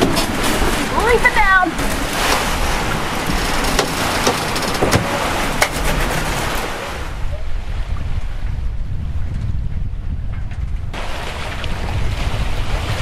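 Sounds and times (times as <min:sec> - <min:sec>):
strong wind and sea rushing: 0:00.0 - 0:13.0.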